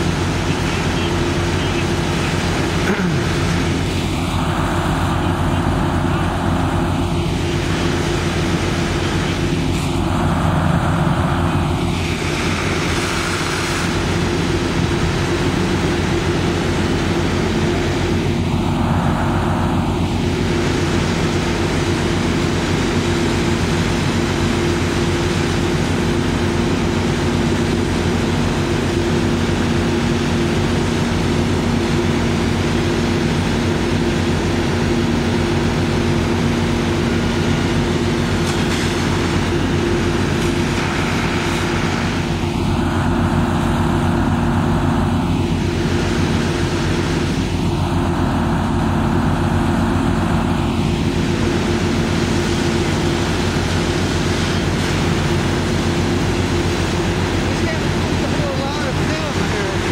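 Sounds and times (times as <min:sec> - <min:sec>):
fire truck engine droning: 0:00.0 - 0:59.9.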